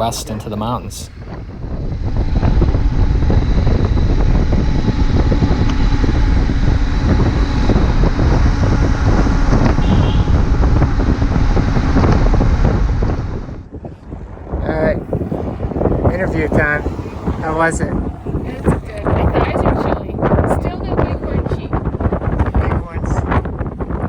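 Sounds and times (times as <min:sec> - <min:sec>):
wind rushing over microphone: 0:00.0 - 0:24.0
motorcycle engine running: 0:00.1 - 0:24.0.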